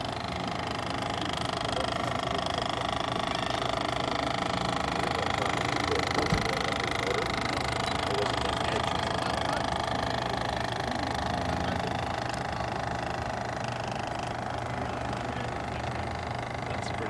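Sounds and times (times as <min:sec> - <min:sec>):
model steam engine running: 0:00.0 - 0:17.0.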